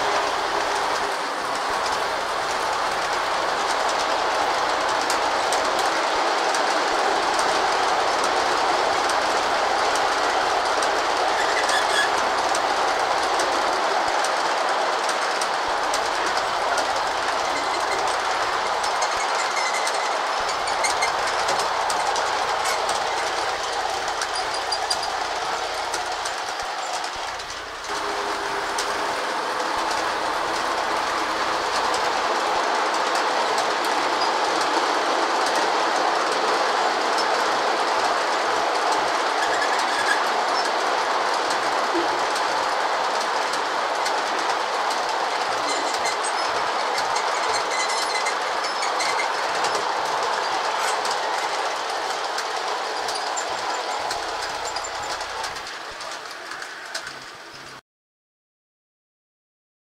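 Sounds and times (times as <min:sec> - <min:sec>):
model freight cars rolling: 0:00.0 - 0:57.8.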